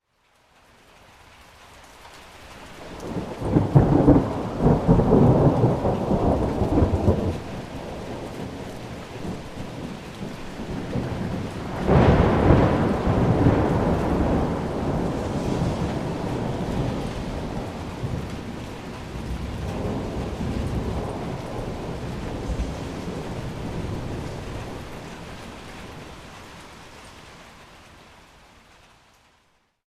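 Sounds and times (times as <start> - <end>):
heavy rain: 0.0 - 29.8
thunder rumbling: 2.8 - 26.8.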